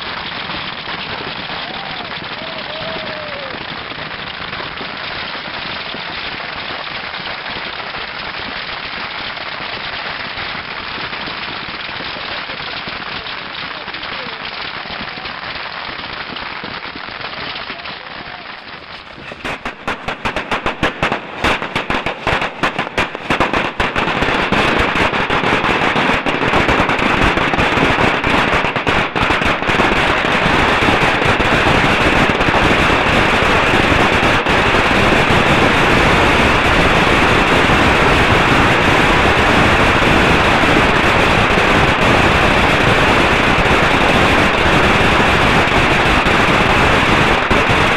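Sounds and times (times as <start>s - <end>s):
fireworks hissing crackle: 0.0s - 47.9s
fireworks sharp cracks: 0.0s - 47.9s.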